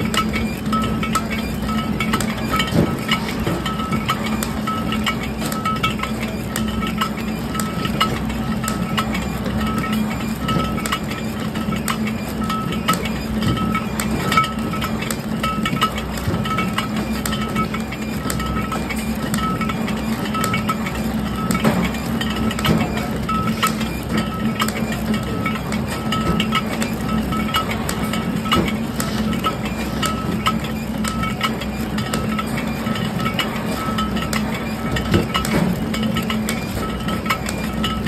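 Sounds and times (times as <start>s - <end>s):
packaging machine hum: 0.0s - 38.0s.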